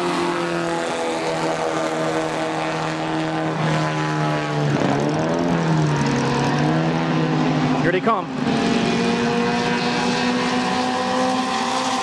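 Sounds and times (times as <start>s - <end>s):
racing car engines droning: 0.0s - 12.0s.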